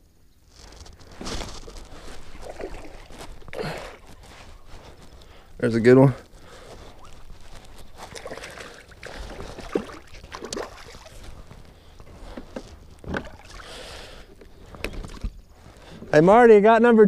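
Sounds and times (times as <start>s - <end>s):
fish splashing and thrashing: 0.5s - 5.5s, 6.3s - 15.8s.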